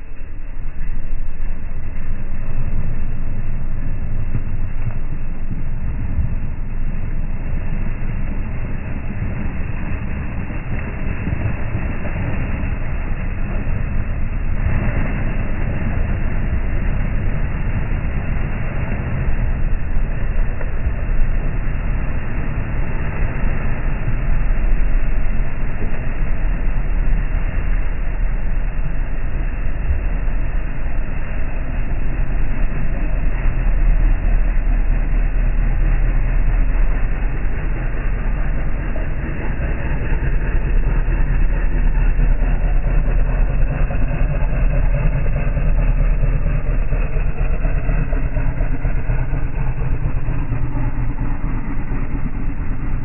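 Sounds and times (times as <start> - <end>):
engine rumbling under load: 0.0 - 53.0
tyres churning in mud: 0.0 - 53.0.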